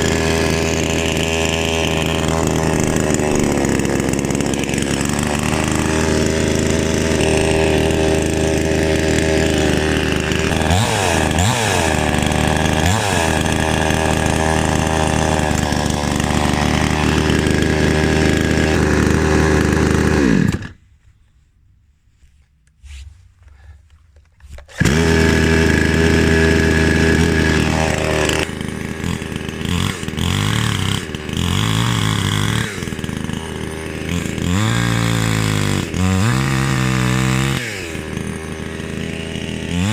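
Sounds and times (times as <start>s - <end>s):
chainsaw running at high revs: 0.0s - 20.8s, 24.7s - 39.9s.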